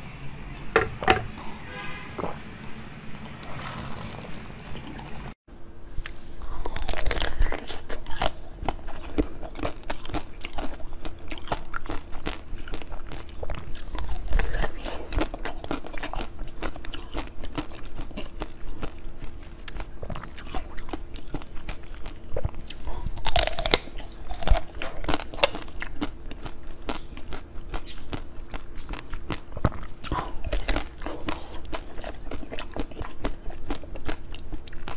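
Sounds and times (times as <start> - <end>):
faint steady hum: 0.0 - 34.9
crunching and chewing: 6.0 - 34.9.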